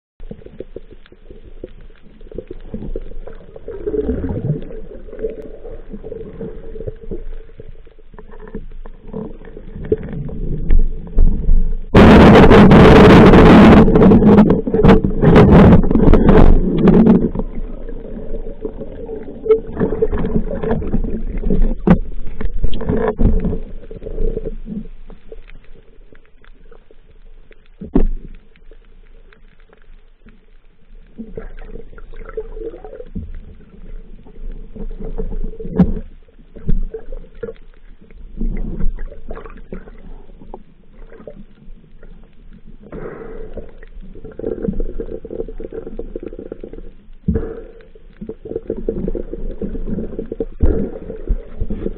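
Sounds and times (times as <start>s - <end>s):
underwater rumbling and gurgling: 0.2s - 51.9s.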